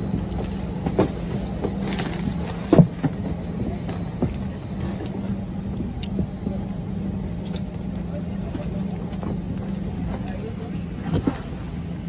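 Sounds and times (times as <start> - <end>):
cabin air system hum: 0.0 - 12.0.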